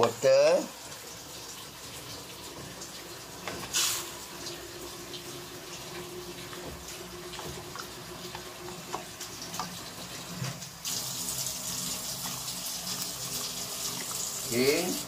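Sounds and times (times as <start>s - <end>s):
water pouring into metal pot: 2.9s - 15.0s.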